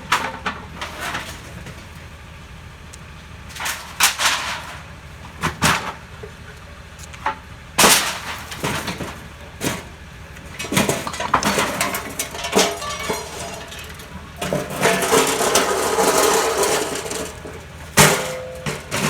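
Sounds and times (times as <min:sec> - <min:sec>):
garbage truck low hum: 0:00.0 - 0:19.0
waste banging in garbage truck hopper: 0:00.0 - 0:19.0.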